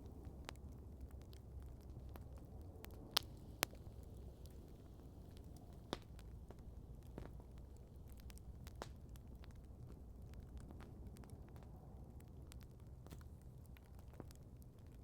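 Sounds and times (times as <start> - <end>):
campfire crackling: 0.0 - 15.0
sharp pops of fire: 0.1 - 14.4.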